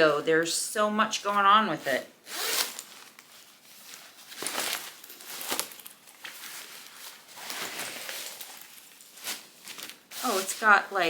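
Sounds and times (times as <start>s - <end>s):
fabric rustling and crinkling: 1.2s - 11.0s.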